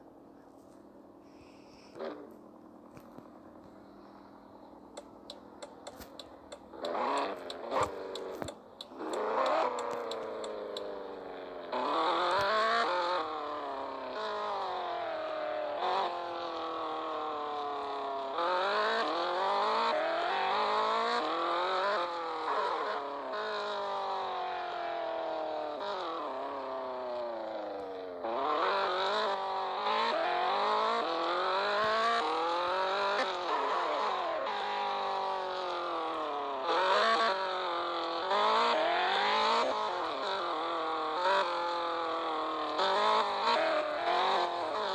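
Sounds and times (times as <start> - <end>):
car engine revving: 1.2 - 44.9.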